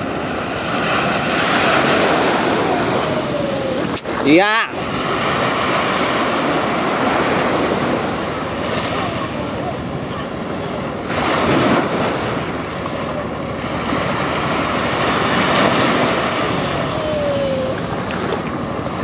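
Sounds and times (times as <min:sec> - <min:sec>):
sea surf breaking: 0:00.0 - 0:19.0.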